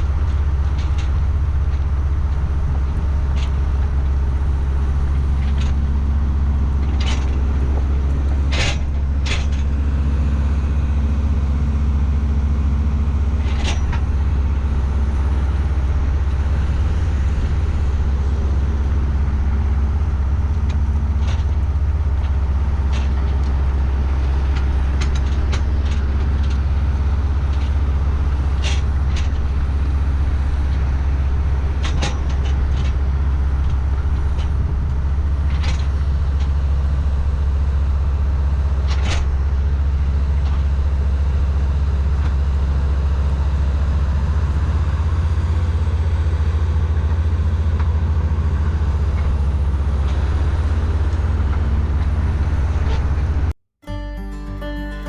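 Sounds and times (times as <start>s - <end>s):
tractor engine droning: 0.0s - 55.0s.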